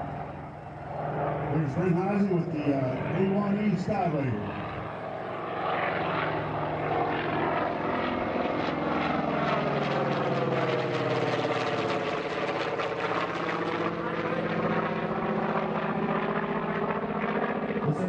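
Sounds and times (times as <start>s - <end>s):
propeller plane droning overhead: 0.0s - 18.0s.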